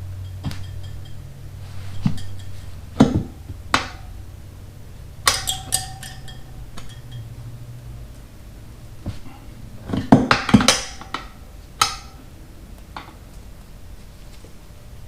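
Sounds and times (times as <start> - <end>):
tire irons clinking on metal rim: 0.0 - 13.2
low hum: 0.0 - 15.0.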